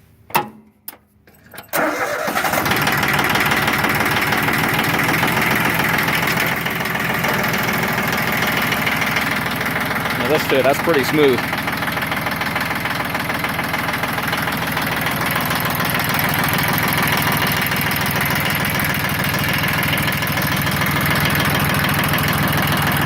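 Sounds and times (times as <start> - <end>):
tractor diesel engine idling: 1.8 - 23.0.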